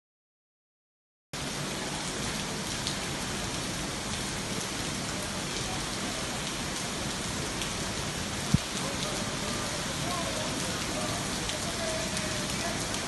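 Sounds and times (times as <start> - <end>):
rain on a wet street: 1.4 - 13.0.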